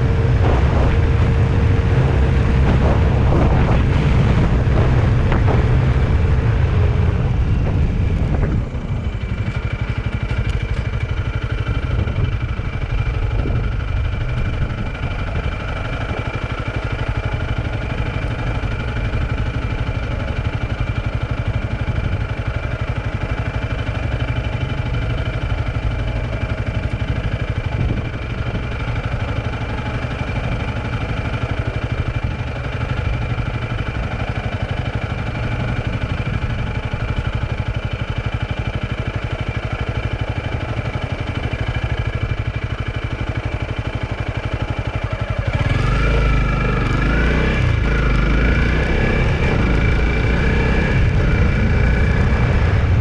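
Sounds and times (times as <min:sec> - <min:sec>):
vehicle engine low rumble: 0:00.0 - 0:53.0.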